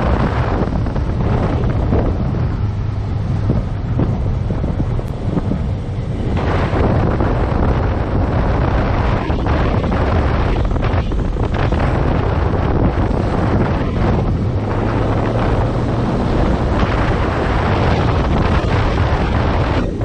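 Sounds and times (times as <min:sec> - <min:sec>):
heavy wind noise on microphone: 0:00.0 - 0:20.0.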